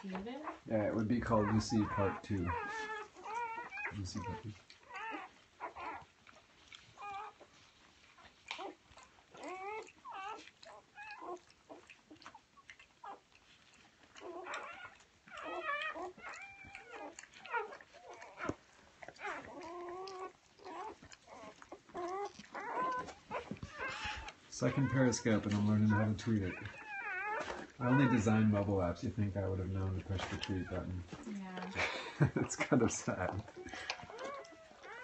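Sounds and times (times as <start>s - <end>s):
puppies squealing and whimpering: 0.0s - 35.0s.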